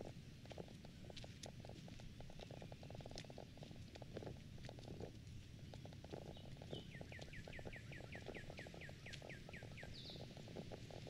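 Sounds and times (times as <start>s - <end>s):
footsteps crunching on a trail: 0.0s - 11.0s.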